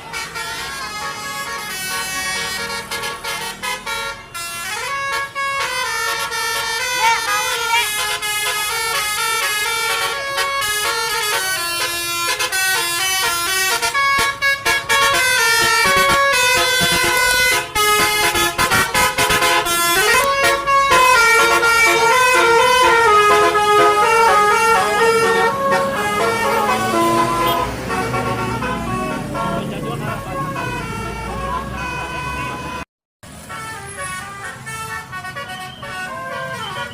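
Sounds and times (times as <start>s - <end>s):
bus horn playing a melody: 0.0s - 36.9s.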